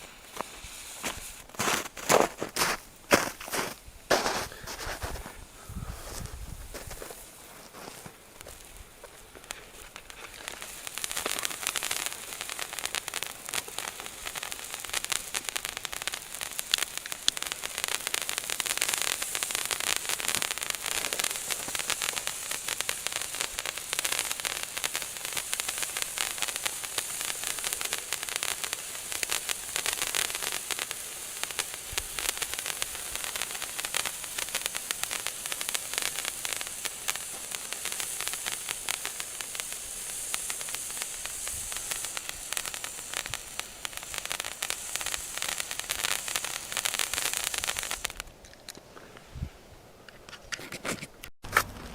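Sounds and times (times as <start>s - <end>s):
firework sparks hissing and crackling: 0.0s - 48.4s.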